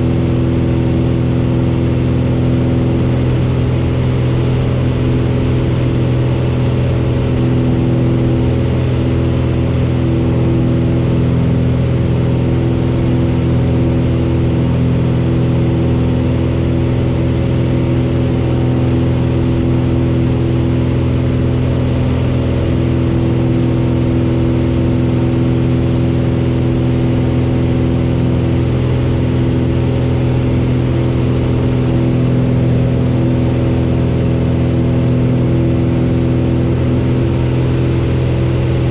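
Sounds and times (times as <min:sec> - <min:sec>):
propeller plane engine running: 0:00.0 - 0:38.9.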